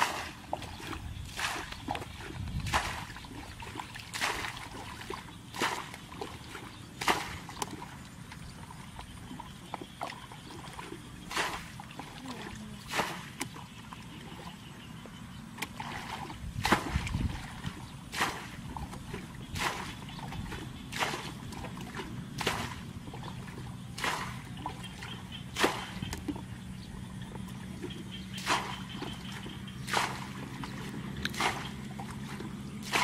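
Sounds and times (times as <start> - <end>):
water sloshing in bucket: 0.0 - 33.0
water splashing: 0.0 - 33.0.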